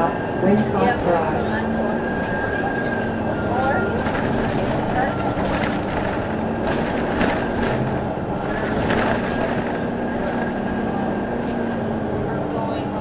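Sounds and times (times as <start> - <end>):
bus drivetrain hum with whine: 0.0 - 13.0.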